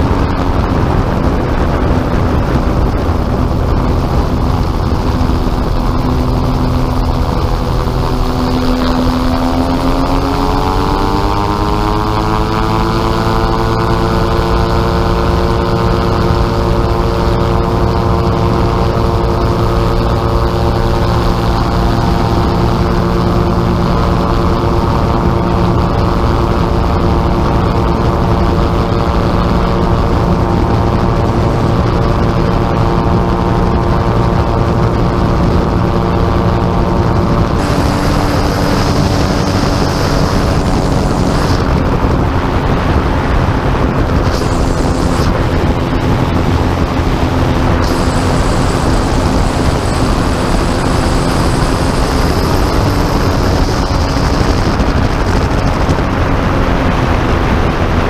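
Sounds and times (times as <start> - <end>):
gyrocopter engine and propeller: 0.0 - 58.0.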